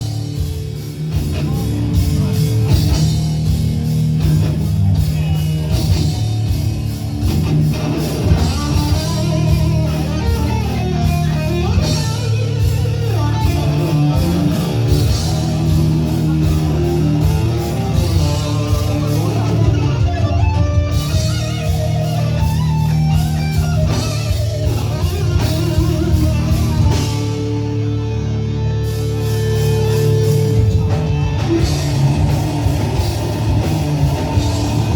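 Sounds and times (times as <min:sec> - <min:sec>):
heavy metal band playing: 0:00.0 - 0:34.9.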